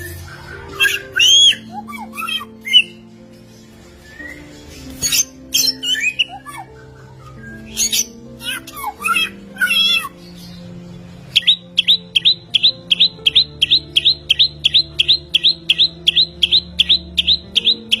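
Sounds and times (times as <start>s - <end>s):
bird warbling: 0.0s - 18.0s.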